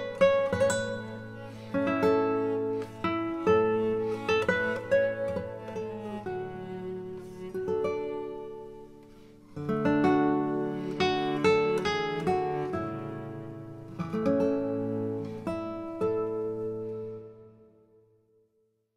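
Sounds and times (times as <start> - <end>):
guitar music: 0.0 - 18.0.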